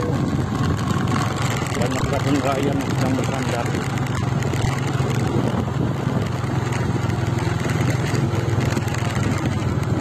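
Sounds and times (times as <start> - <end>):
motorcycle engine running: 0.0 - 10.0
tyres on gravel: 0.0 - 10.0.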